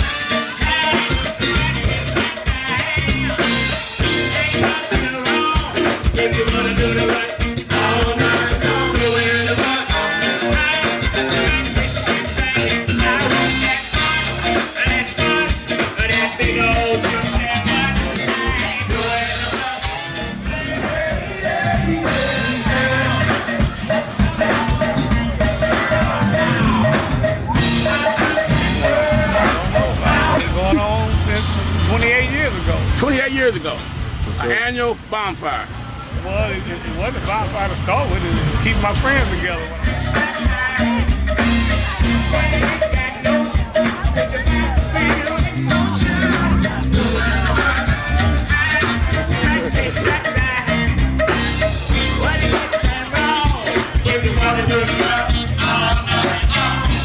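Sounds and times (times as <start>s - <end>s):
person singing: 0.0s - 31.2s, 39.6s - 57.0s
drum kit: 0.0s - 34.6s, 36.2s - 57.0s
guitar: 0.0s - 34.9s, 35.6s - 57.0s.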